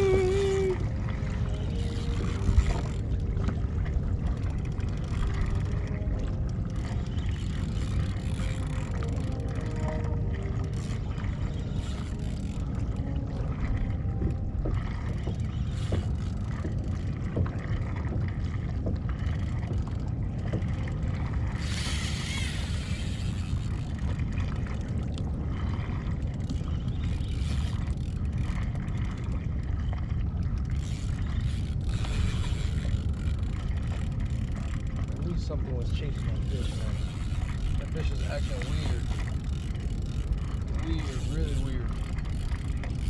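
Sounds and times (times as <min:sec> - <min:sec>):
water washing against hull: 0:00.0 - 0:43.0
wind buffeting microphone: 0:00.0 - 0:43.0.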